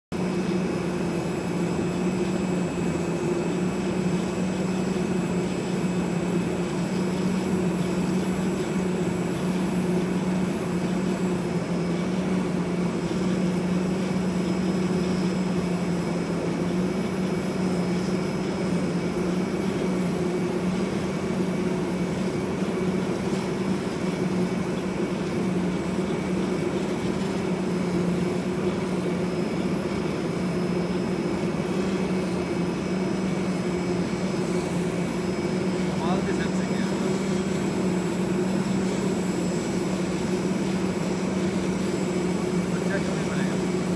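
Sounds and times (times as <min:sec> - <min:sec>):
cutting machine humming: 0:00.1 - 0:43.9.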